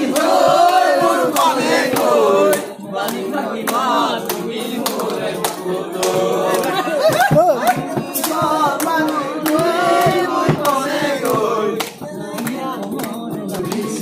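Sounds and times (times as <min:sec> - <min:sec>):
hand claps: 0:00.0 - 0:14.0
men singing together: 0:00.0 - 0:14.0.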